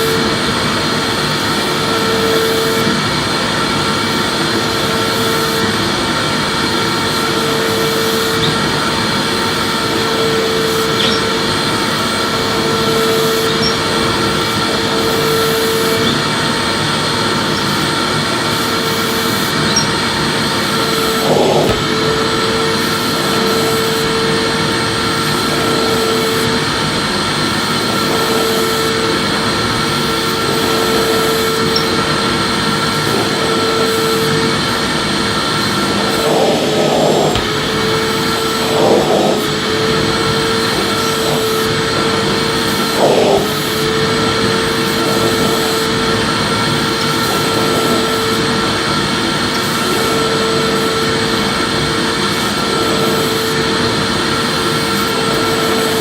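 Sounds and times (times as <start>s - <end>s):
vacuum cleaner whining: 0.0s - 56.0s.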